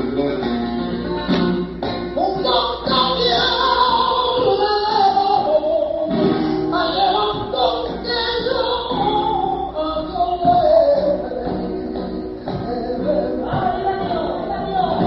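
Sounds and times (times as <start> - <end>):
flamenco guitar: 0.0 - 15.0
woman singing flamenco: 0.5 - 15.0.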